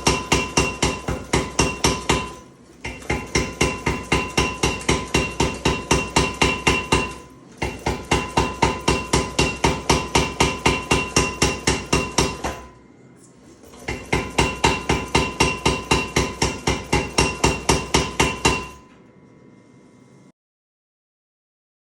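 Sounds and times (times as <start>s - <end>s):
power hammer striking steel: 0.0s - 12.8s, 13.7s - 18.9s.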